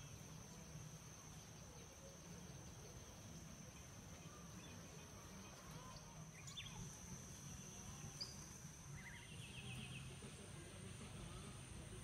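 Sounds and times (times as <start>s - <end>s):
bird calls: 0.0s - 10.3s
high-pitched insect drone: 0.0s - 12.0s.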